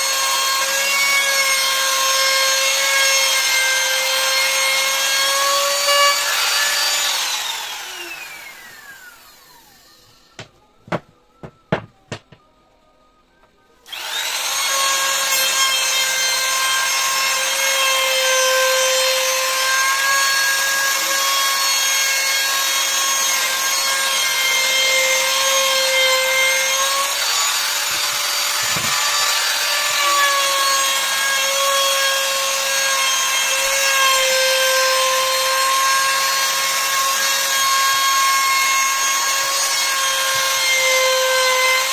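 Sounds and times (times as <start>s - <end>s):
electric router whining: 4.0s - 10.0s, 13.9s - 41.9s.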